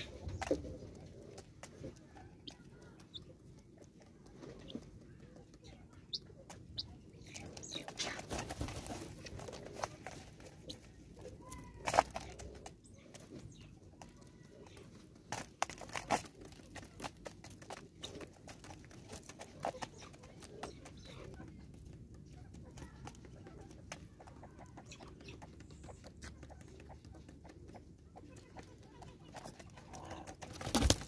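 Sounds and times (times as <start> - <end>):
beak taps and plastic crinkles: 0.0 - 27.8
birds clucking softly: 0.0 - 31.0.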